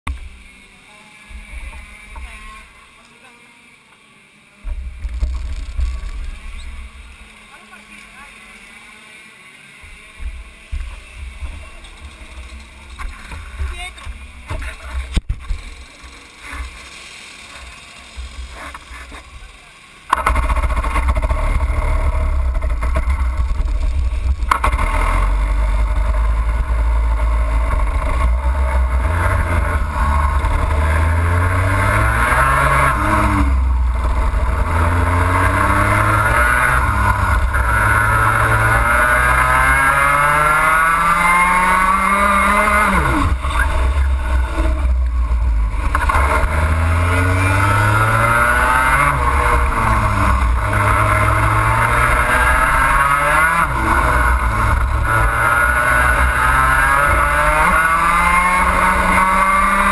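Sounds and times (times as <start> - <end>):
kart engine revving: 0.1 - 3.3, 4.6 - 59.9.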